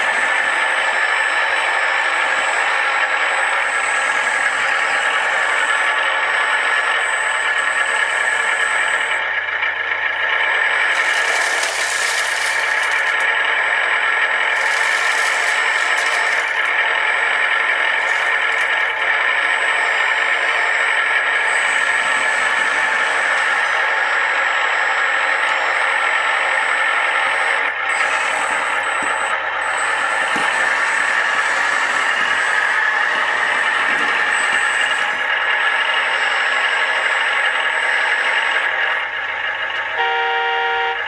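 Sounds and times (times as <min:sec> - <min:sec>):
toy vehicle mechanical whir and rattle: 0:00.0 - 0:40.1.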